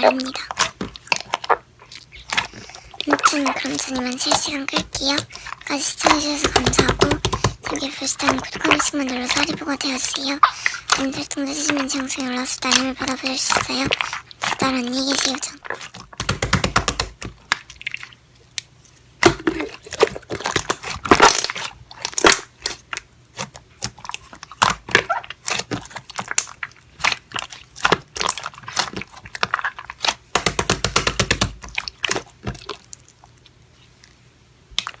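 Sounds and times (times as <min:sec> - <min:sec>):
slime squished crackling: 0:00.0 - 0:35.0.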